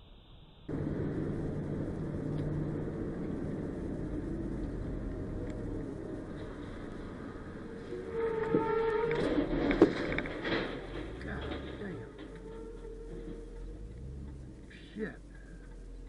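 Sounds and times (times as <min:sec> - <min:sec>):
car road noise on highway: 0:00.7 - 0:16.0
low engine hum: 0:00.7 - 0:16.0.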